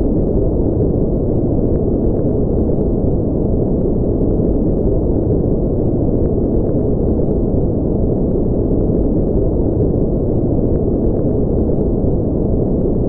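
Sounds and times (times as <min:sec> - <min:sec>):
deep muffled white noise: 0:00.0 - 0:13.0.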